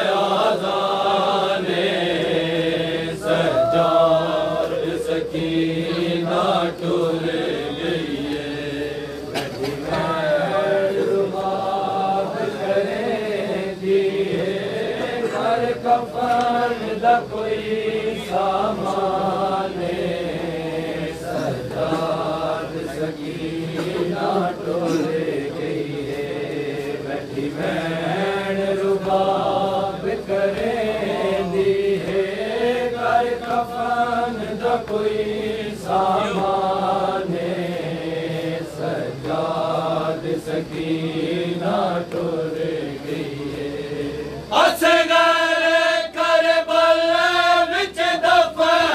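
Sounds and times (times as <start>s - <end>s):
men chanting in unison: 0.0s - 48.9s.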